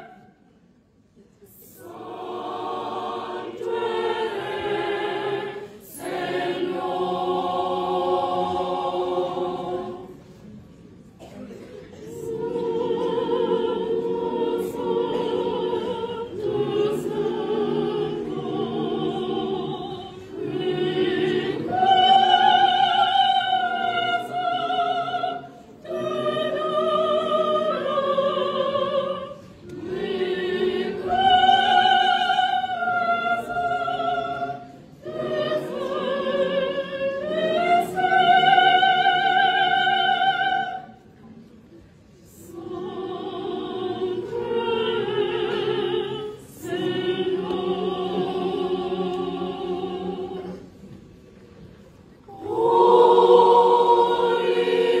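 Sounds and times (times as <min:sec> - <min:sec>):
choir singing unaccompanied: 0:00.0 - 0:00.4, 0:01.5 - 0:10.6, 0:11.2 - 0:55.0.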